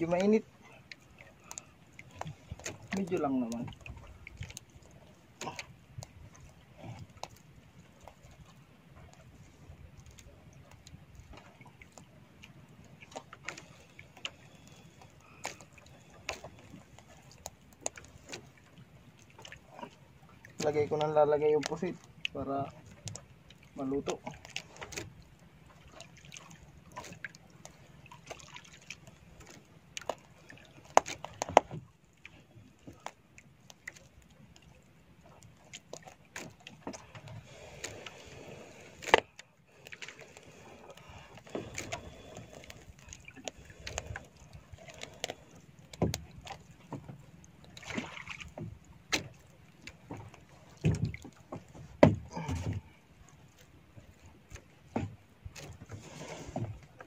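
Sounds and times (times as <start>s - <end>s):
water sloshing: 0.0s - 57.0s.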